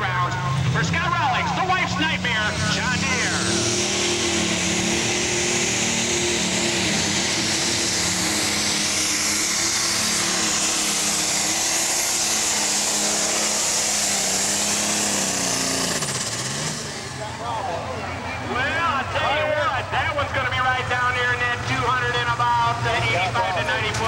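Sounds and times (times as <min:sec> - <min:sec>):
diesel engine running under load: 0:00.0 - 0:24.0.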